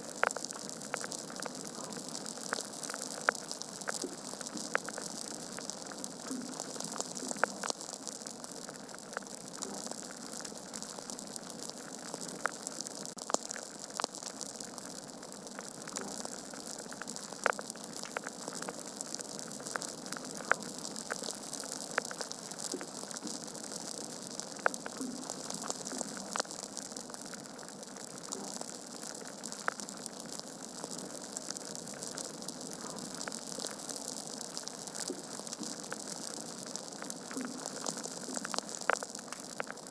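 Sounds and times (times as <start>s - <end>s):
burning logs crackling and popping: 0.0s - 39.9s.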